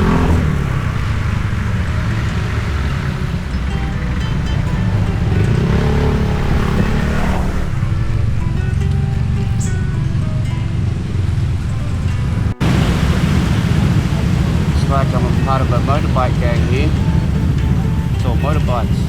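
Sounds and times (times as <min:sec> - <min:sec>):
background music: 0:00.0 - 0:19.0
motorbike engine rumble: 0:00.0 - 0:19.0.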